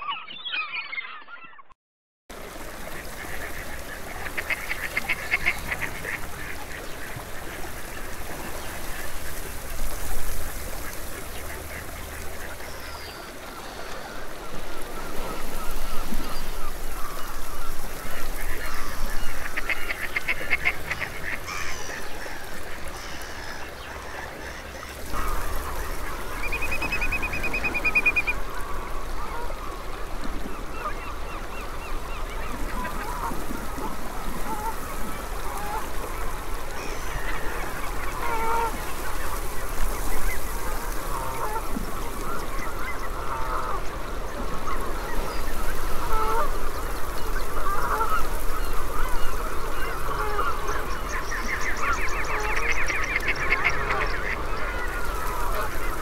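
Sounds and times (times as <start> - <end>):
waterbirds chattering calls: 2.3 - 56.0.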